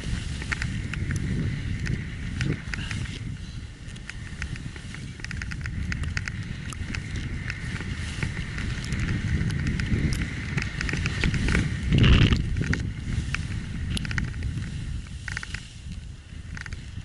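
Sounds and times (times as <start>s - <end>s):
small ticks and clicks: 0.0s - 17.0s
snowboard sliding through snow: 0.0s - 17.0s
wind rumbling on microphone: 0.0s - 17.0s.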